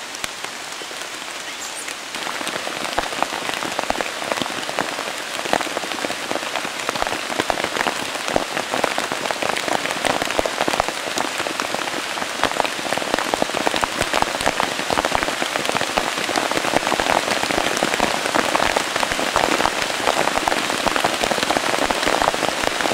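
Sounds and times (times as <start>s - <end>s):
light rain falling: 0.0s - 22.9s.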